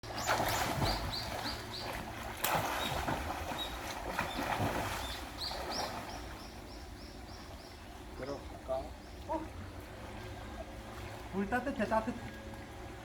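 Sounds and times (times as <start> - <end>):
water splashing in a stream: 0.0 - 13.0.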